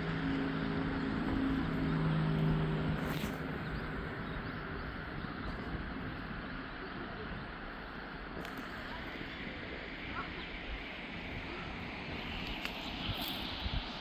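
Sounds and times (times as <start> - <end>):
engine humming: 0.0 - 14.0
outdoor background noise: 0.0 - 14.0.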